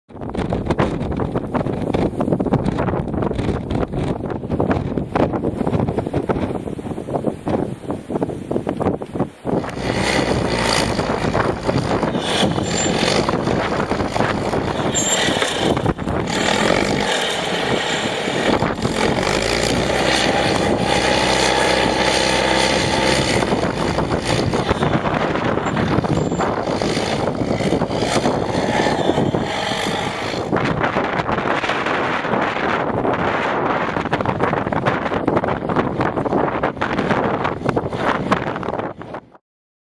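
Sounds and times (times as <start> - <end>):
storm wind buffeting microphone: 0.1 - 39.4.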